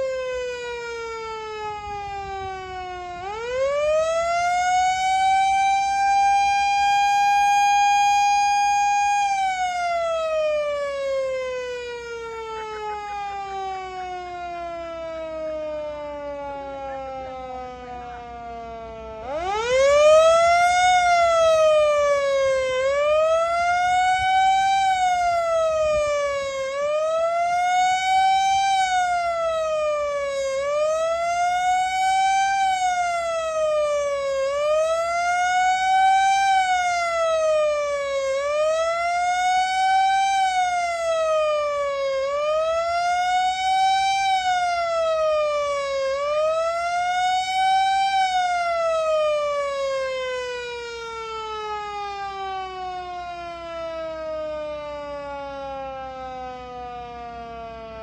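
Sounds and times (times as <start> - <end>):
warning siren wailing: 0.0 - 58.0.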